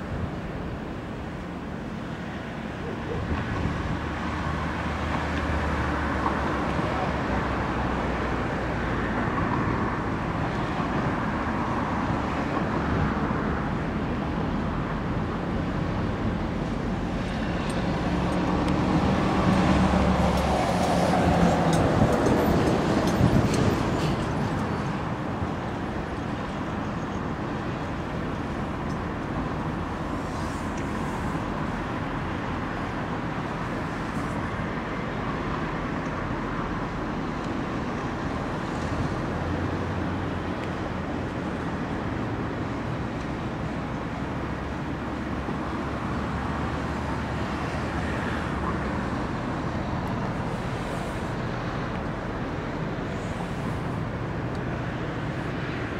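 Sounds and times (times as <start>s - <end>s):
outdoor noise rushing: 0.0s - 55.9s.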